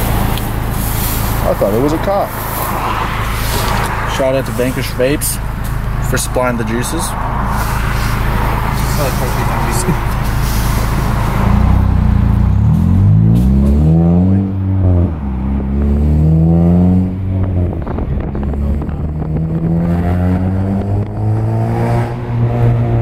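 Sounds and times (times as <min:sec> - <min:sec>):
car exhaust accelerating: 0:00.0 - 0:23.0.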